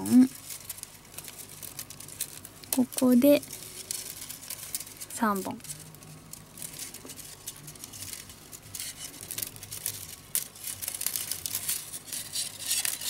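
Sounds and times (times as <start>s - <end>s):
bamboo strips clicking and rustling: 0.0s - 13.0s.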